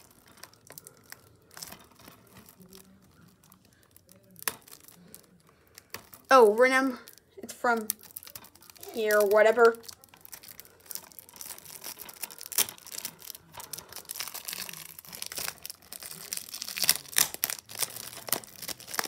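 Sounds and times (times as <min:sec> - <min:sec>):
plastic wrap crinkling and tearing: 0:00.0 - 0:19.0.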